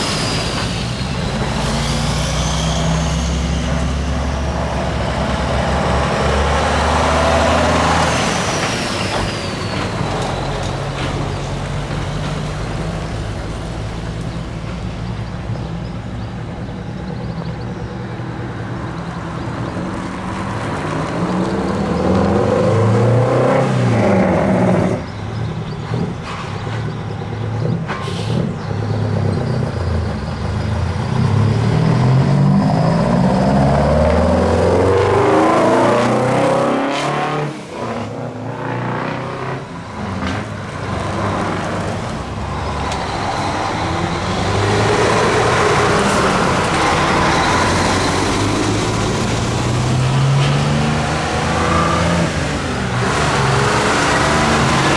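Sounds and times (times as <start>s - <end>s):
truck diesel engines revving: 0.0s - 54.9s.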